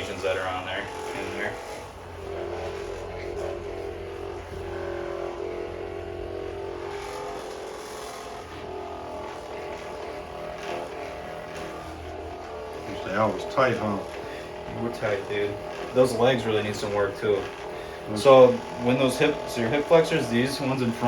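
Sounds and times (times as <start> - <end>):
massage gun motor hum: 0.0 - 21.0.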